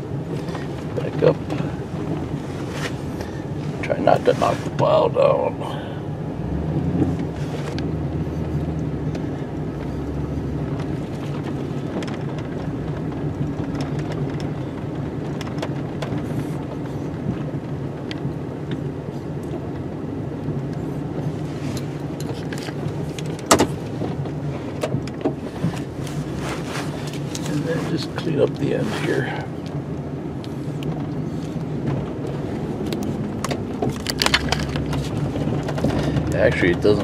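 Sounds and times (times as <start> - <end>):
plow vehicle engine running: 0.0 - 37.0.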